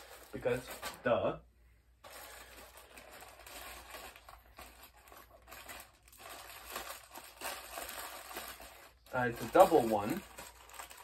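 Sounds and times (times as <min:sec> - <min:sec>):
packaging crinkling and rustling: 0:00.0 - 0:01.1, 0:02.0 - 0:11.0.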